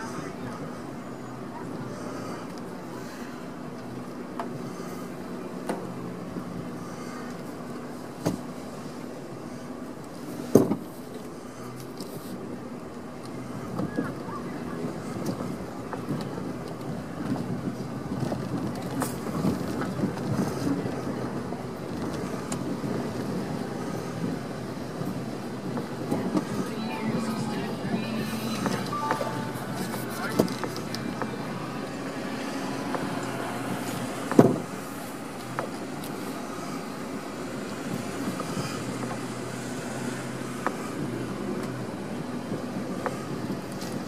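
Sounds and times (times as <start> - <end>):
vehicle engine hum and rumble: 0.0 - 44.0.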